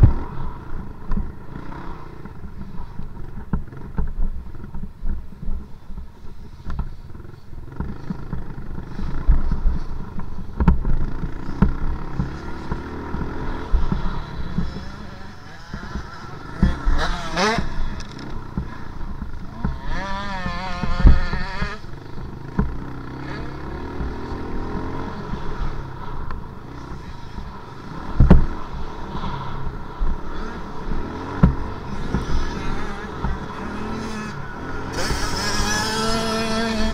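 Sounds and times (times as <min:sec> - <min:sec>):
dirt bike engine revving: 0:00.0 - 0:03.9, 0:10.6 - 0:36.9.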